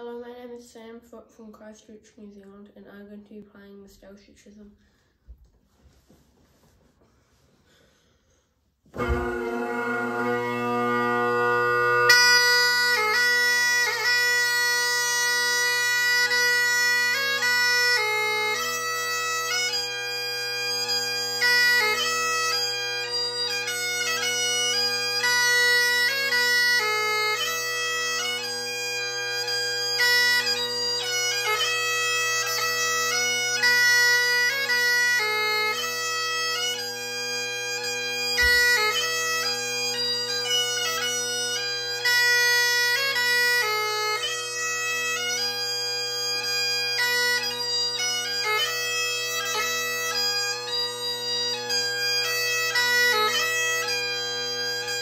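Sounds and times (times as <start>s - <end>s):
bagpipe playing: 8.9s - 55.0s.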